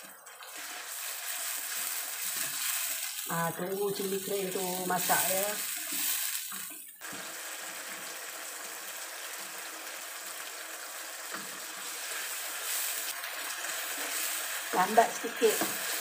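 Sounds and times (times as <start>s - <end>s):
paste sizzling in oil: 0.4s - 16.0s.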